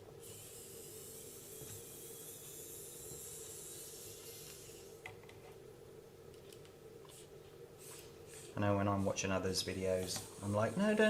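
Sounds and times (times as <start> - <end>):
steady hiss: 0.0 - 5.2, 6.6 - 11.0.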